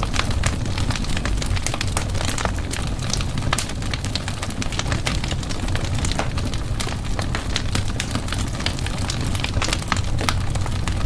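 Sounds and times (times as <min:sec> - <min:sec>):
fire crackling and popping: 0:00.0 - 0:11.0
fire flames rumbling: 0:00.0 - 0:11.0.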